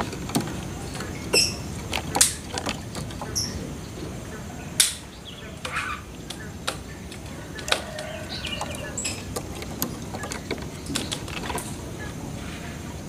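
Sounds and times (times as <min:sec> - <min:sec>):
birds chirping and calling: 0:00.0 - 0:13.0
low background noise: 0:00.0 - 0:13.0.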